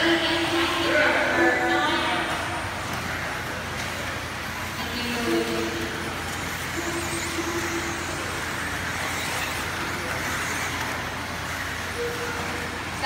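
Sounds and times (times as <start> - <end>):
motor whine: 2.2 - 13.0
electric toy cars on dirt: 2.3 - 13.0.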